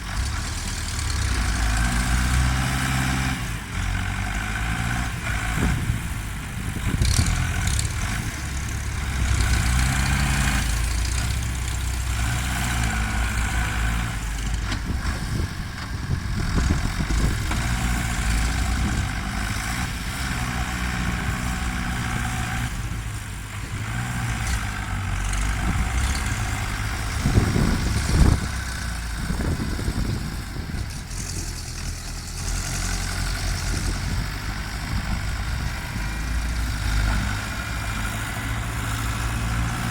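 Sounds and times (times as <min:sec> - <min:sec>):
tractor engines revving: 0:00.0 - 0:39.9.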